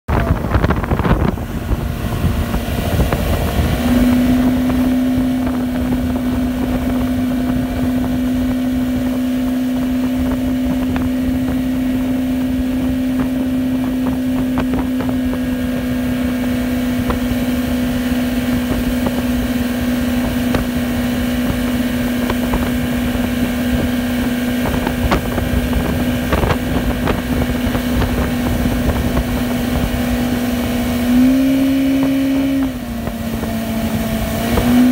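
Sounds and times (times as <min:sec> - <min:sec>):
outboard motor running: 0:00.1 - 0:34.9
wind buffeting microphone: 0:00.1 - 0:34.9.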